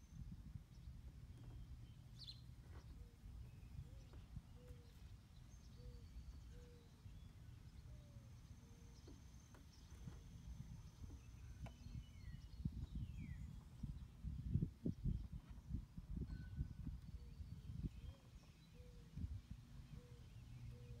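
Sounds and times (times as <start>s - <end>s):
distant birds calling: 0.0s - 14.3s, 16.4s - 21.0s.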